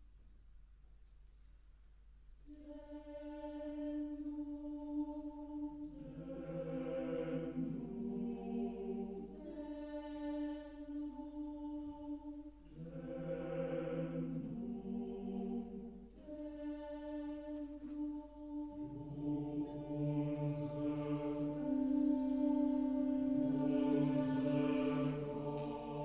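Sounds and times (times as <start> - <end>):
mixed choir singing chords: 2.5 - 26.0.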